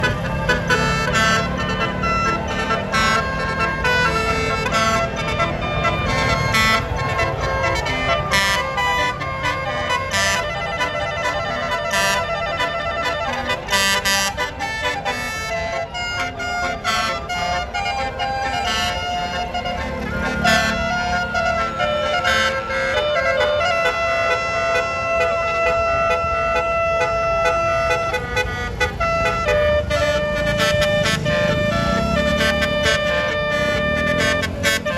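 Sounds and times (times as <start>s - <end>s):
multi-tone bus horns tooting: 0.0s - 34.9s.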